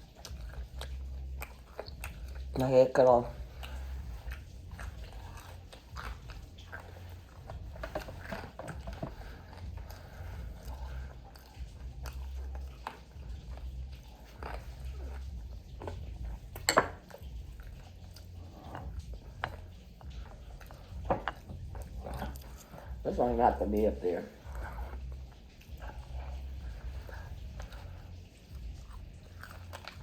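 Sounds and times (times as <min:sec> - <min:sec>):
wet mouth noises: 0:00.0 - 0:23.0, 0:23.8 - 0:30.0
chewing crispy food: 0:00.0 - 0:30.0
low steady hum: 0:00.0 - 0:30.0.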